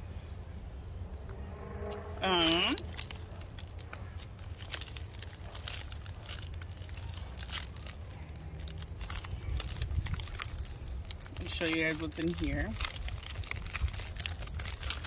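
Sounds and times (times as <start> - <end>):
plastic packaging crinkling: 2.4 - 15.0.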